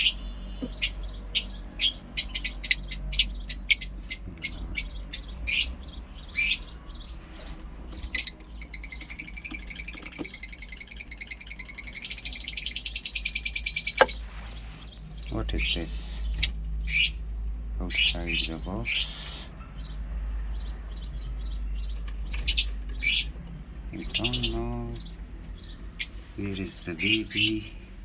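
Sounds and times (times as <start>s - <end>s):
lovebirds chirping: 0.0s - 28.0s.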